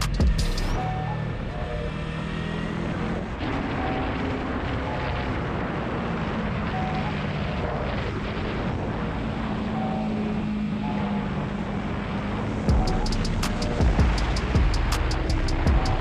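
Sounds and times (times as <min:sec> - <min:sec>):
motorcycle engine at speed: 0:00.0 - 0:16.0
wind and road rush: 0:00.0 - 0:16.0.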